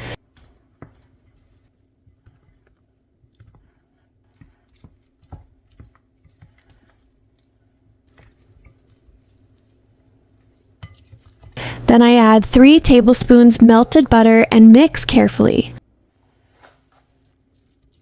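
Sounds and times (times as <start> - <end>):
spatula squelching wet mixture: 0.2 - 14.3, 16.4 - 18.0.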